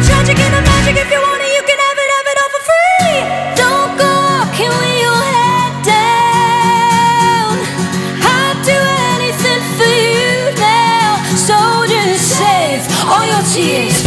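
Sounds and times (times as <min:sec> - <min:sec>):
acoustic guitar and band: 0:00.0 - 0:02.1, 0:02.7 - 0:14.0
woman singing: 0:00.0 - 0:14.0.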